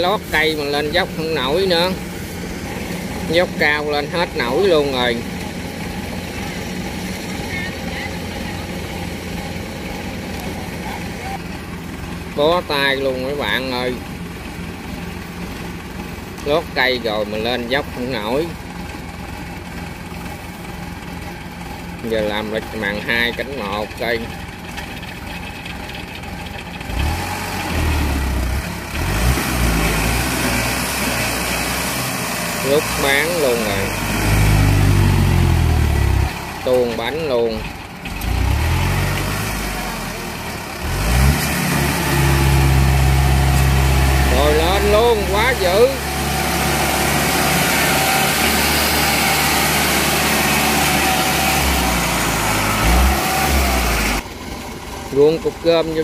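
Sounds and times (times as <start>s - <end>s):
harvester engine revving under load: 0.0s - 54.4s.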